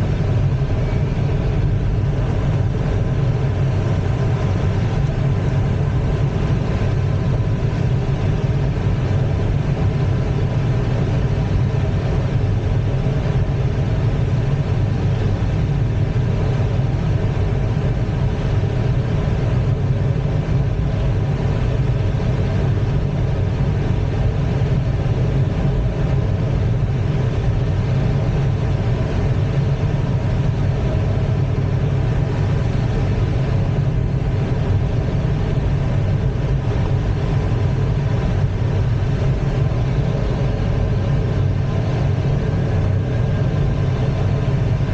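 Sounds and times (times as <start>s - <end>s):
airflow rushing over canopy: 0.0s - 44.9s.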